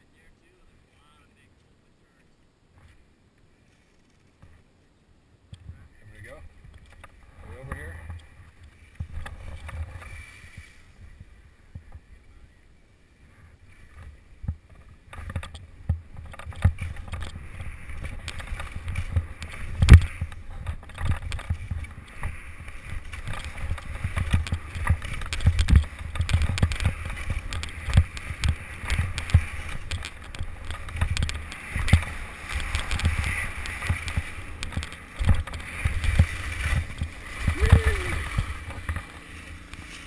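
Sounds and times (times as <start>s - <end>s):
skis scraping through snow: 6.6s - 40.0s.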